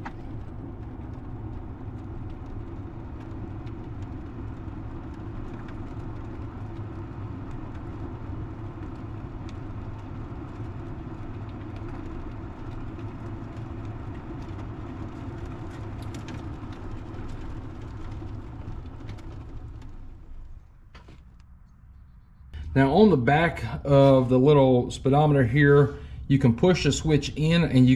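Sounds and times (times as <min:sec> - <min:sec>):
golf cart tyres rumbling: 0:00.0 - 0:27.9.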